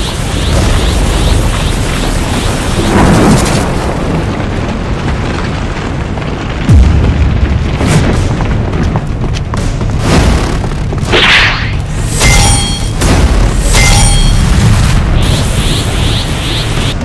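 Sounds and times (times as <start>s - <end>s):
deep rumbling and booming: 0.0s - 17.0s.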